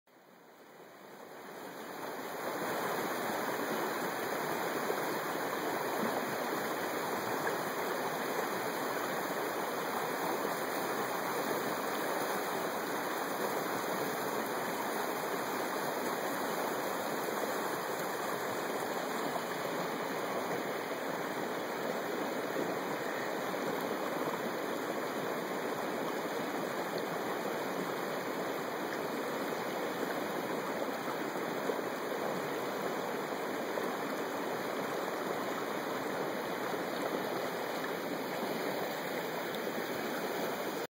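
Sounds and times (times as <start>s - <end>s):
stream rushing: 0.2s - 40.9s.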